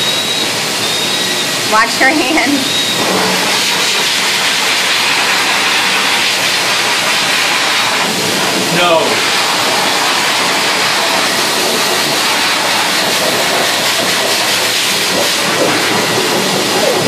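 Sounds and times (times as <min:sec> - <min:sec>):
blow dryer rushing air: 0:00.0 - 0:17.0.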